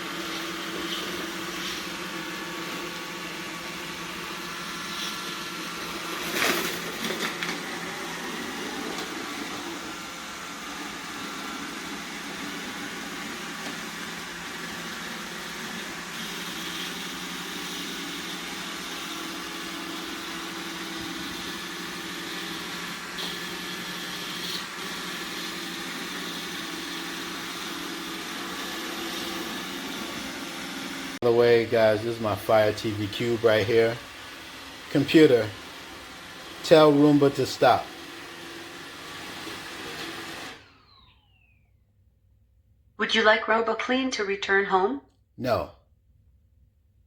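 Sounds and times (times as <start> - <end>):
robot vacuum whirring: 0.0 - 31.6, 32.3 - 41.6.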